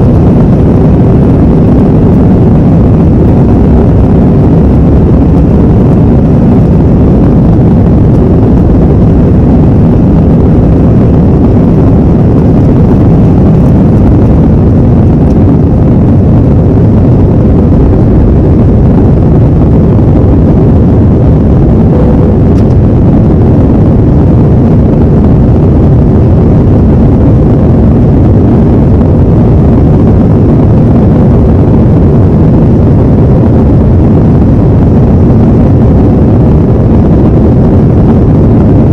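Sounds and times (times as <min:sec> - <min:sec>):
jet engines and rushing air: 0:00.0 - 0:38.9.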